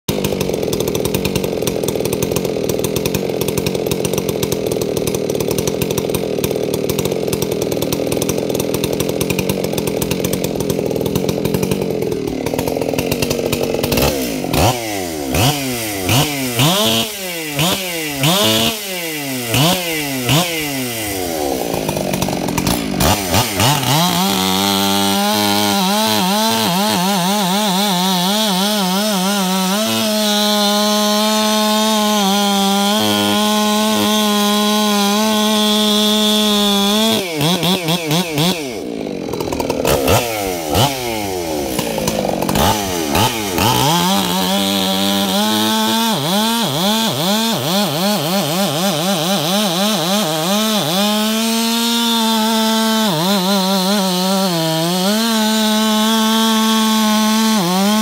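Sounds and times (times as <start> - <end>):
chainsaw cutting log: 0.0 - 58.0
chainsaw revving: 0.0 - 58.0.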